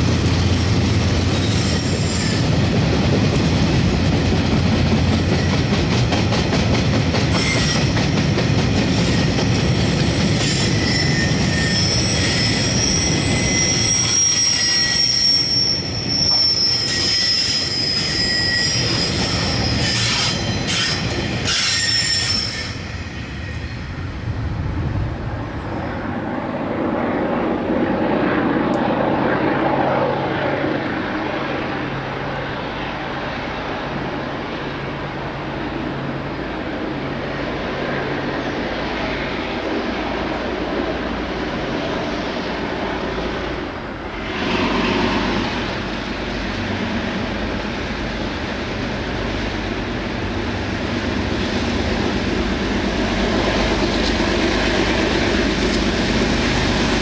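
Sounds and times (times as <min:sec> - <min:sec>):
train wheels squealing on rails: 0:00.0 - 0:24.2, 0:29.6 - 0:57.0
train rumble: 0:00.0 - 0:57.0.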